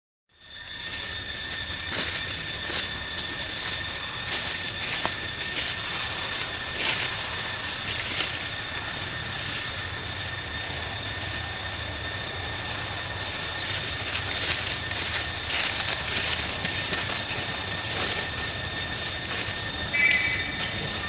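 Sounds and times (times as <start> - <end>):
outdoor background noise: 0.3 - 21.0
thin high steady tone: 0.4 - 21.0.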